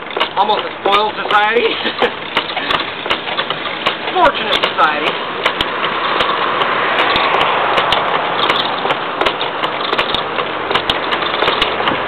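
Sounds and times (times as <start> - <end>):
gouge scraping spinning wood: 0.0 - 12.0
sharp wood ticks: 0.0 - 12.0.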